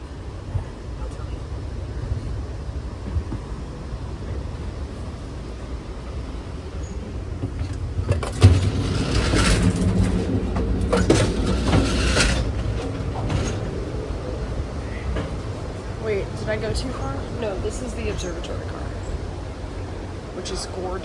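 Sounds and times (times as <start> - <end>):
rattling and track noise: 0.0 - 21.0
train rumble: 0.0 - 21.0.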